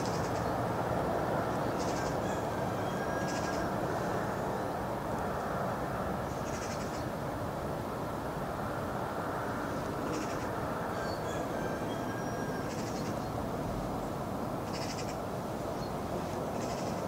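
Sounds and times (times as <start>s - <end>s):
rush of wind and water: 0.0s - 17.0s.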